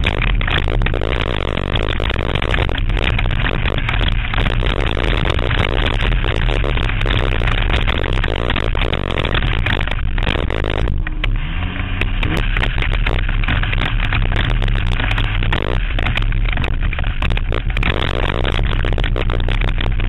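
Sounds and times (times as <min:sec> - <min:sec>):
car body rattling and scraping: 0:00.0 - 0:20.0
race car engine rumbling: 0:00.0 - 0:20.0.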